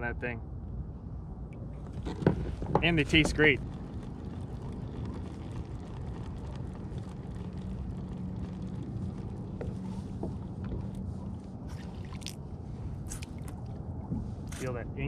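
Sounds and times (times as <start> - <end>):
water noise: 1.5 - 14.6.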